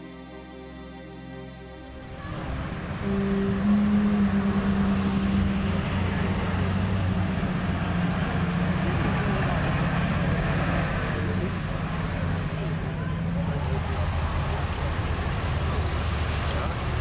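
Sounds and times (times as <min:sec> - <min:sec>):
car engine running: 0:02.0 - 0:17.0.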